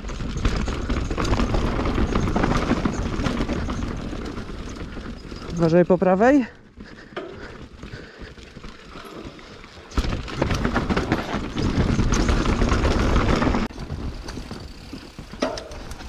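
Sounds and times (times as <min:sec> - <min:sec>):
bike rattling and clicking: 0:00.0 - 0:16.0
bike tyres rolling over roots: 0:00.0 - 0:16.0.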